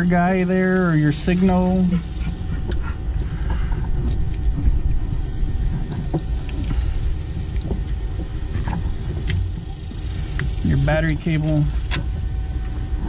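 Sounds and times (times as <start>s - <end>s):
high hiss: 0.0s - 2.8s, 5.0s - 13.0s
low background rumble: 0.0s - 13.0s.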